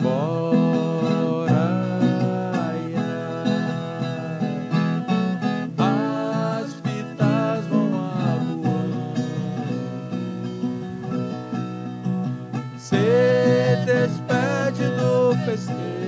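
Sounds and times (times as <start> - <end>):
two men singing a duet: 0.0 - 10.2, 12.8 - 16.0.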